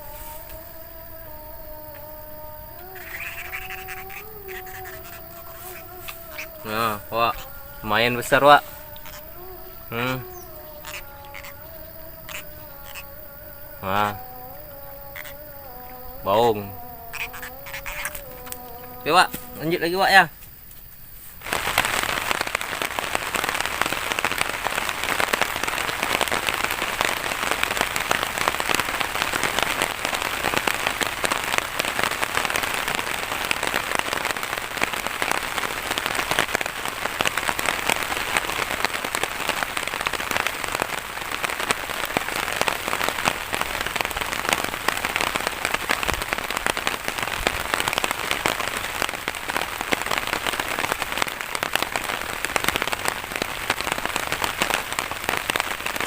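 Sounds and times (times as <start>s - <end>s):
heavy rain: 0.0s - 20.4s, 21.4s - 56.0s.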